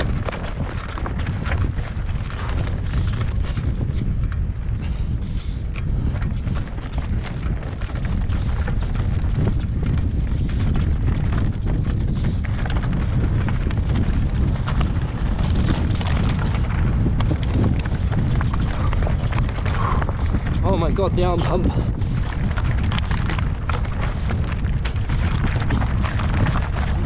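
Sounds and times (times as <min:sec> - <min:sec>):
bike clattering over rocks: 0:00.0 - 0:27.0
low rumble on microphone: 0:00.0 - 0:27.0.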